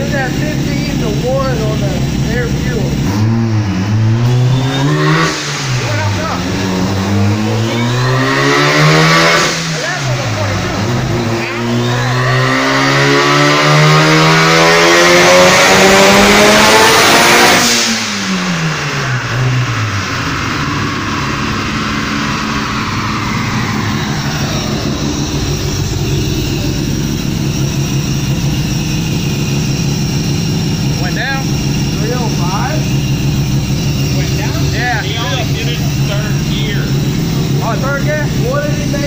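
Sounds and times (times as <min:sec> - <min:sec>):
rotary engine revving: 0:00.0 - 0:39.0.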